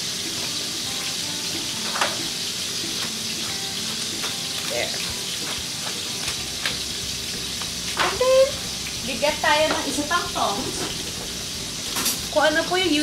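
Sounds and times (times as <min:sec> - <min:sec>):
chicken sizzling in a pan: 0:00.0 - 0:13.0.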